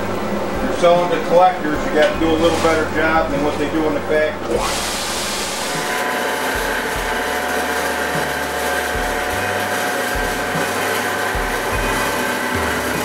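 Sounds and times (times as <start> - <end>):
belt grinder motor whine: 0.0 - 13.0.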